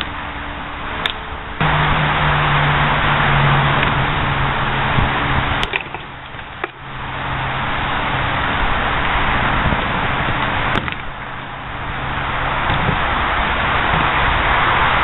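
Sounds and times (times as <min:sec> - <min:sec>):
low hum: 0:00.0 - 0:15.0
rushing background noise: 0:00.0 - 0:15.0.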